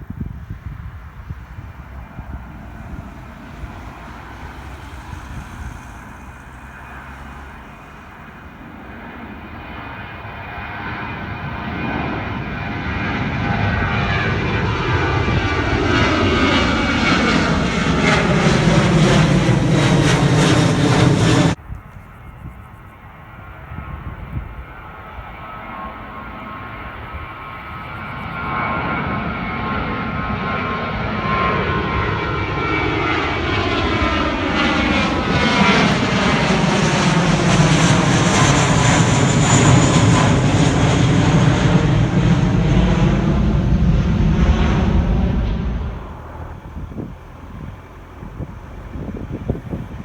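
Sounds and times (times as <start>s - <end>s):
airplane engines passing: 0.0s - 50.0s.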